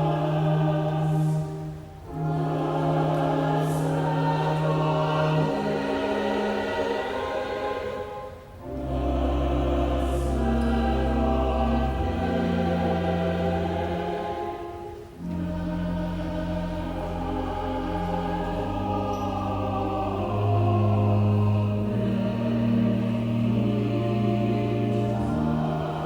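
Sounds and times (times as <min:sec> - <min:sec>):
choir singing held chords: 0:00.0 - 0:26.0
low sustained notes: 0:00.0 - 0:26.0.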